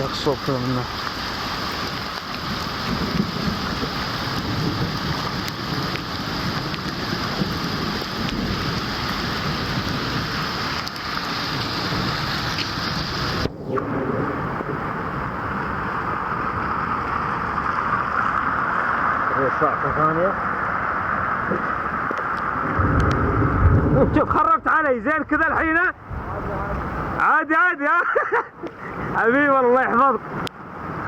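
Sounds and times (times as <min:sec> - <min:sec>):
thunder rumbling: 0:00.0 - 0:18.2, 0:19.1 - 0:27.2
steady rain: 0:00.0 - 0:31.0.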